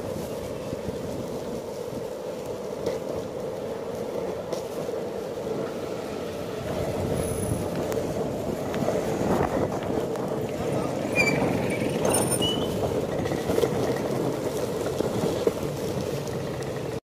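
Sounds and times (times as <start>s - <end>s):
skateboard wheels rolling on asphalt: 0.0s - 17.0s.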